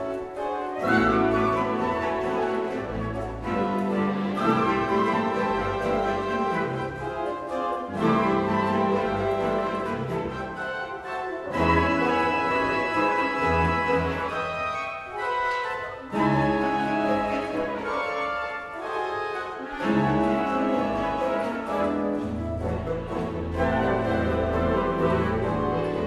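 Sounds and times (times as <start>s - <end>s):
woodwinds and strings ensemble: 0.0s - 26.0s.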